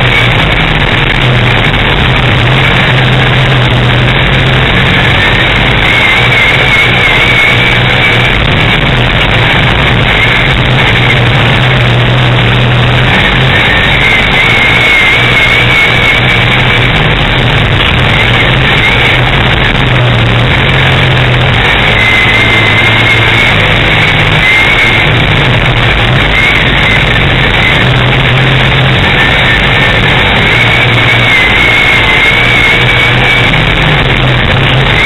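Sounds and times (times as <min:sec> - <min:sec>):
race car engine running hard: 0:00.0 - 0:35.0
thin high whine: 0:00.0 - 0:35.0.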